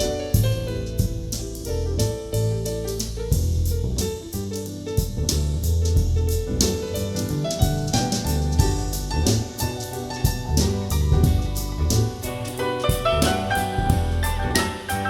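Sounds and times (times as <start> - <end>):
soul jazz music: 0.0 - 15.0.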